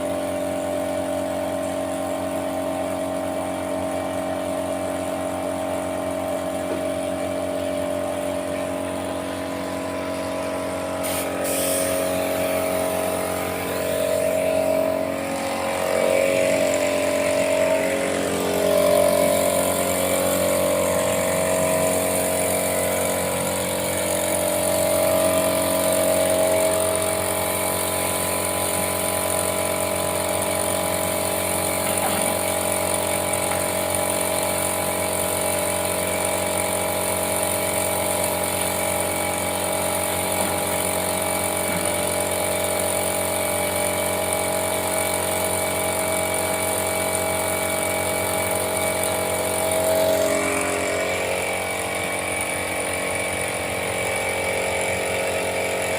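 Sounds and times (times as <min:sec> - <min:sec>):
motor-driven machine running: 0:00.0 - 0:55.9.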